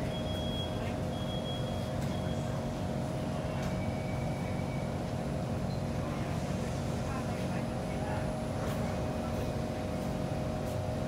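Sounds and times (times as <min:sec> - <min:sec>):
train interior hum: 0:00.0 - 0:11.0.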